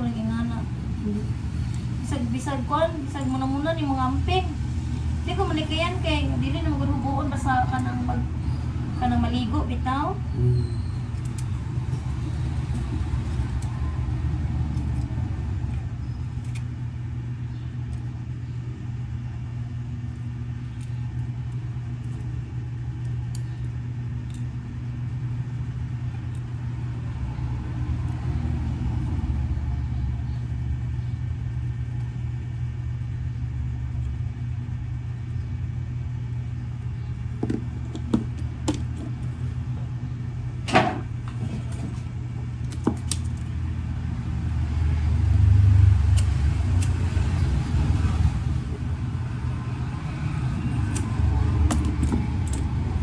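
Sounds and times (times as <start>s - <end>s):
low mechanical hum: 0.0s - 53.0s.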